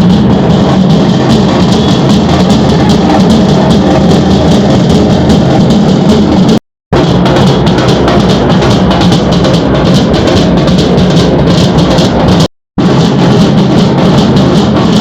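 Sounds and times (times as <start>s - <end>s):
loud music with drums: 0.0s - 15.0s.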